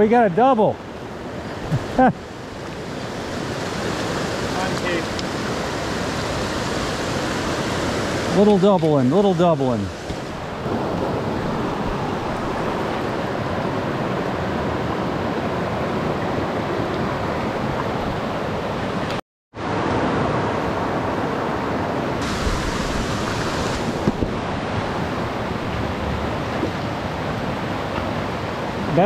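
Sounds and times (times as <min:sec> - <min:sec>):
fast-flowing river rushing: 0:00.3 - 0:29.0.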